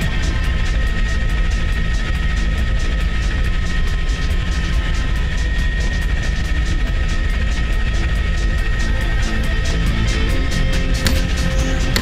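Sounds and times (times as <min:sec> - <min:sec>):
helicopter rotor beats: 0:00.0 - 0:12.0
helicopter turbine whine: 0:00.0 - 0:12.0.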